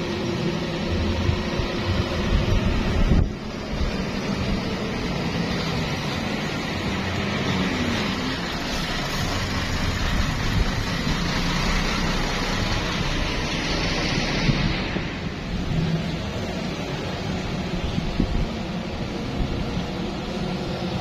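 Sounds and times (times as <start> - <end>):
bus engine rumbling: 0.0 - 21.0
road and air noise: 0.0 - 21.0.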